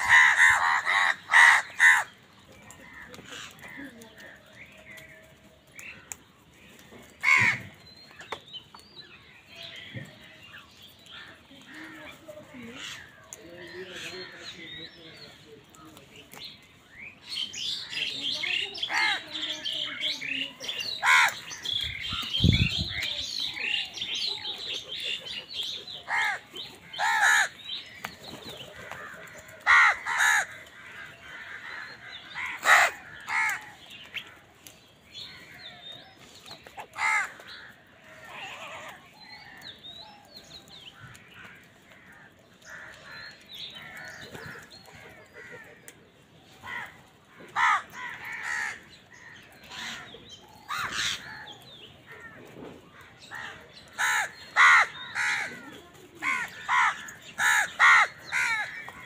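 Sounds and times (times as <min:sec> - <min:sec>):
crows cawing: 0:00.0 - 0:05.0, 0:07.2 - 0:07.8, 0:11.0 - 0:14.9, 0:17.6 - 0:36.0, 0:36.8 - 0:39.7, 0:40.9 - 0:59.0
small birds twittering: 0:00.0 - 0:59.0.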